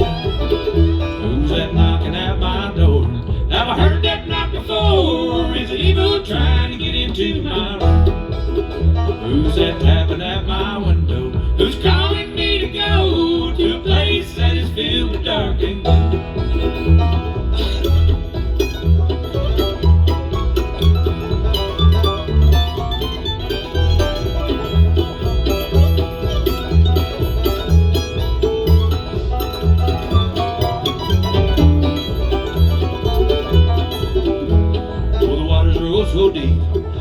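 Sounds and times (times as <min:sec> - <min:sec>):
banjo: 0:00.0 - 0:37.0
bluegrass band playing: 0:00.0 - 0:37.0.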